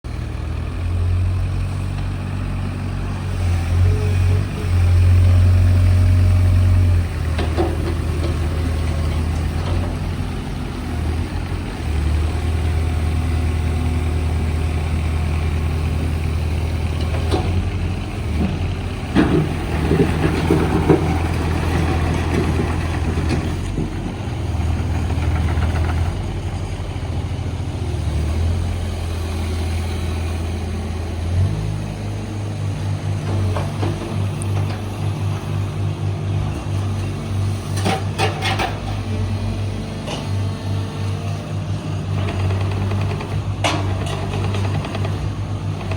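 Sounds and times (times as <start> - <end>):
diesel excavator engine droning: 0.0 - 45.9.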